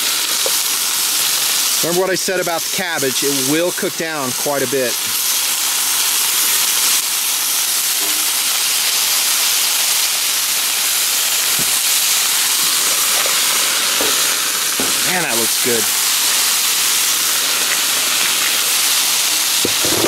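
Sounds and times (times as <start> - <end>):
vegetables sizzling in frying pan: 0.0 - 20.0.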